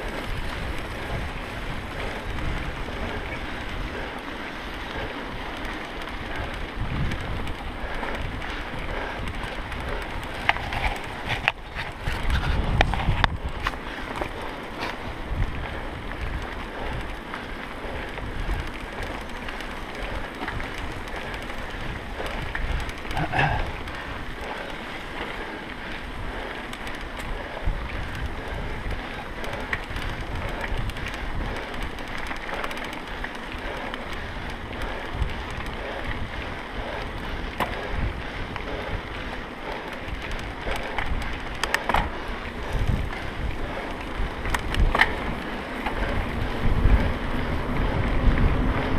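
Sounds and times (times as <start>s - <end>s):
bike rattling: 0.0s - 48.9s
bike tyres rumbling on dirt: 0.0s - 48.9s
wind buffeting microphone: 0.0s - 48.9s.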